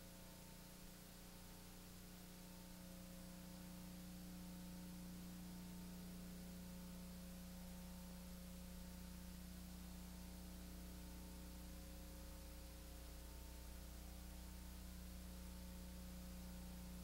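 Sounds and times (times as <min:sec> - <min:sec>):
low electrical hum with hiss: 0:00.0 - 0:17.0.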